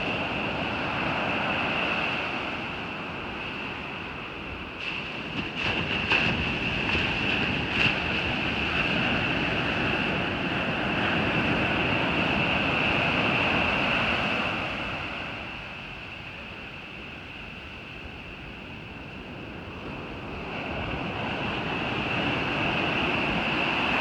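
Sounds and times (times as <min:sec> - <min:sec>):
ocean surf washing onto beach: 0:00.0 - 0:16.9, 0:19.0 - 0:24.0.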